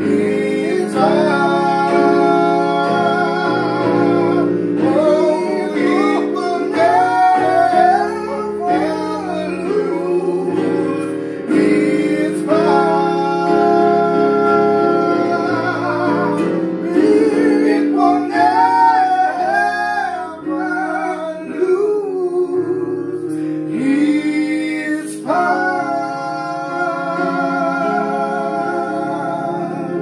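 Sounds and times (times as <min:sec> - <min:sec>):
electronic keyboard chords: 0:00.0 - 0:30.0
man singing gospel song: 0:00.0 - 0:30.0.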